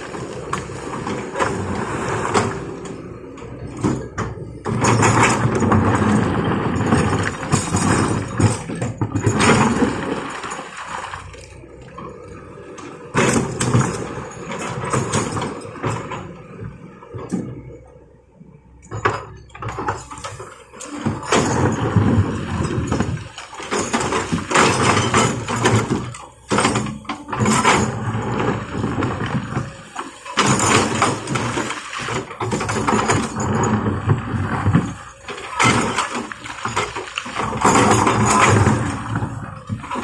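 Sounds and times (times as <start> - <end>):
heavy diesel machinery humming: 0.0 - 40.0.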